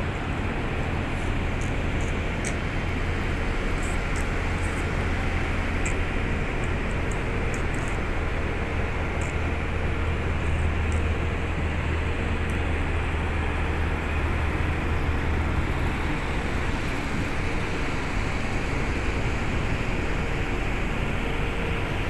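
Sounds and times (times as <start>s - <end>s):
heavy machinery diesel engine: 0.0s - 22.0s.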